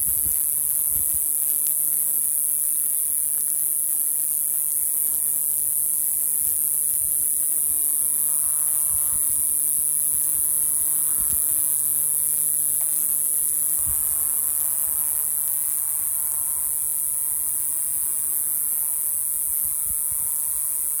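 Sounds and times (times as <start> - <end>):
cicada buzzing: 0.0 - 21.0.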